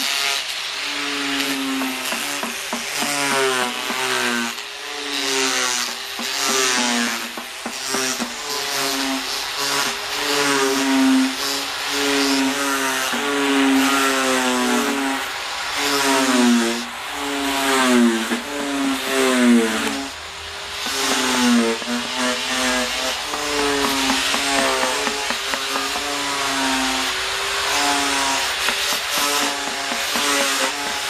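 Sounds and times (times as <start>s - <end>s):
power tool motor carving wood: 0.0s - 31.0s.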